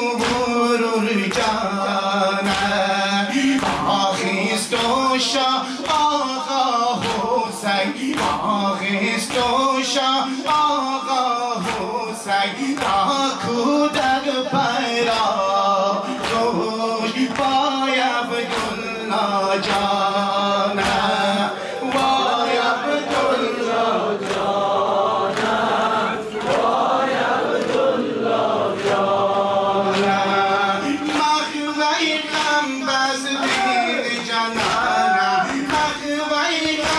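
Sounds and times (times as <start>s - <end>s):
men chanting in chorus: 0.0s - 36.9s
rhythmic beating strikes: 0.0s - 36.9s.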